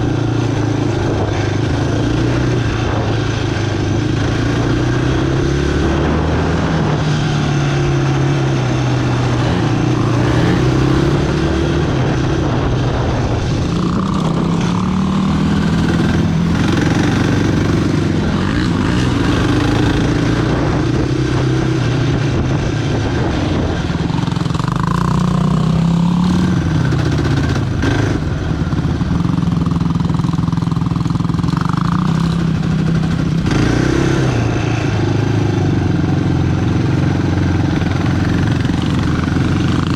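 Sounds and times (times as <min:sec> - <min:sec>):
quad engine accelerating: 0:00.0 - 0:39.9.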